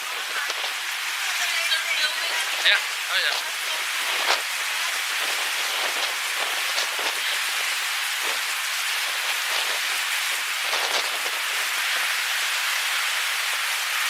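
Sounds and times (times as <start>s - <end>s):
heavy rain falling: 0.0s - 14.0s
raindrops hitting close by: 0.0s - 14.0s.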